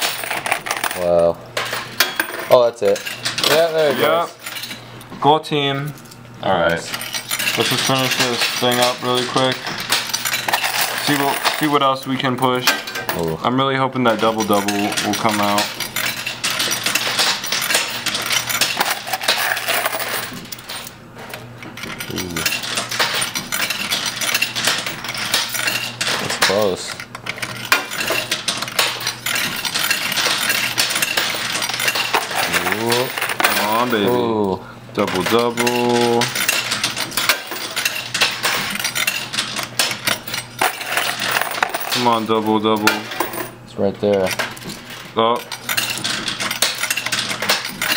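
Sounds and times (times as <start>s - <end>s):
coins clinking and rattling: 0.0s - 4.9s, 5.9s - 47.9s.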